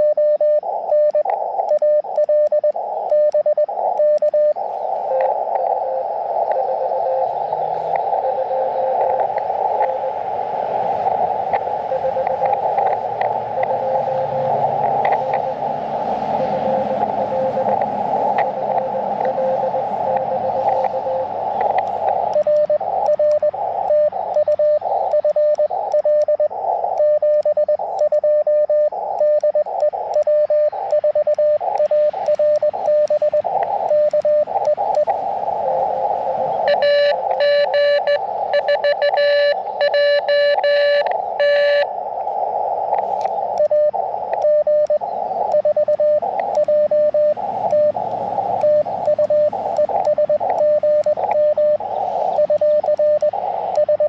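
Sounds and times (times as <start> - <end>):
bright morse sidetone keying: 0.0 - 10.2, 10.9 - 42.0, 43.0 - 54.0
morse code beeping: 0.0 - 10.3, 10.9 - 42.0, 42.7 - 54.0
radio band noise hiss: 0.0 - 54.0.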